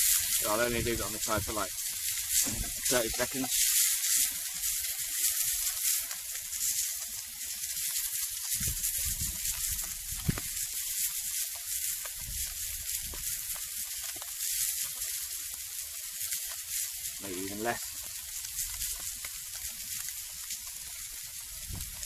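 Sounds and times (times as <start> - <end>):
fish sizzling in frying pan: 0.0 - 22.0.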